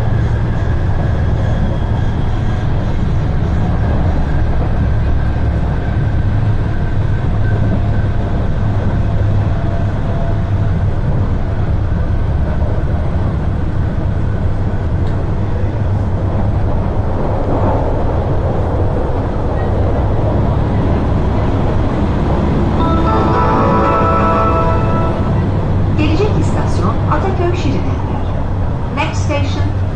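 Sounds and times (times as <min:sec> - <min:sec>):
wheels rumbling on rail: 0:00.0 - 0:29.9.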